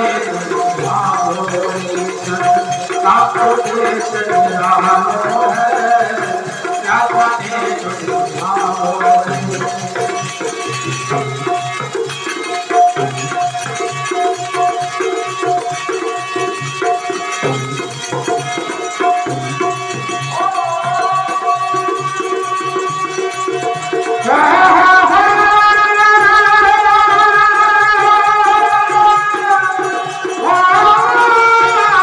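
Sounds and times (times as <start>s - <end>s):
hand drum rhythm: 0.0s - 32.0s
harmonium melody: 0.0s - 32.0s
small hand cymbals: 0.0s - 32.0s.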